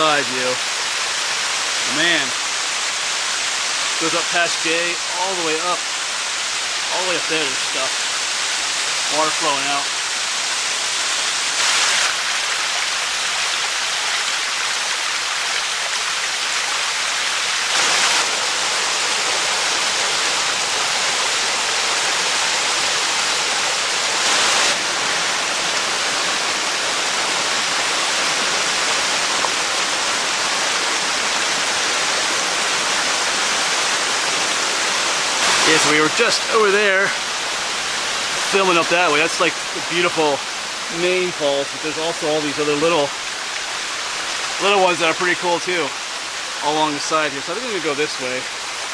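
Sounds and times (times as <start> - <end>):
waterfall roaring: 0.0 - 48.9.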